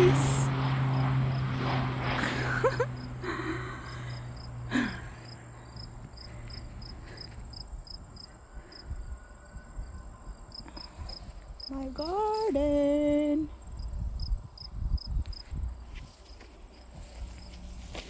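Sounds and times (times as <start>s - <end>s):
propeller airplane engine droning: 0.0s - 18.0s
crickets chirping: 2.4s - 18.0s.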